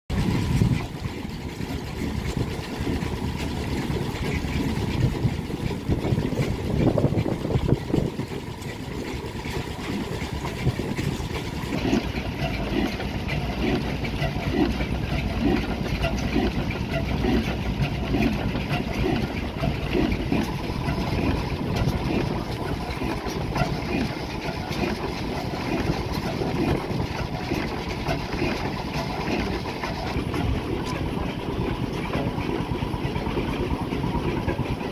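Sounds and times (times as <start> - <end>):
slow oil engine running: 0.1 - 34.9.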